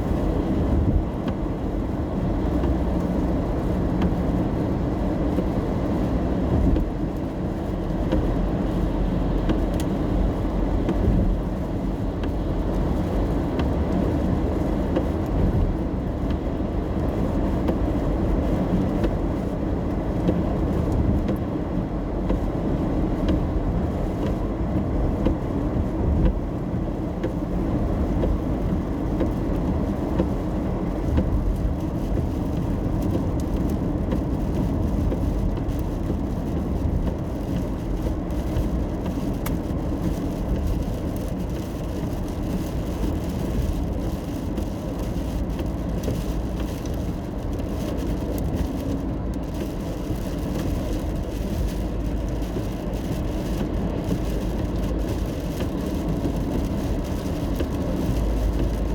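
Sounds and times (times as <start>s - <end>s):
car road and engine noise: 0.0s - 58.9s
rain ticking on car: 0.0s - 58.9s.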